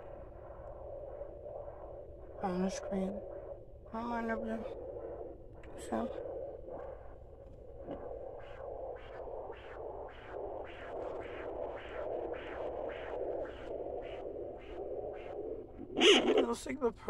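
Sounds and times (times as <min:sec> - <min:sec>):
fetal heartbeat whooshing pulse: 0:00.0 - 0:16.6
steady hiss: 0:00.0 - 0:17.0.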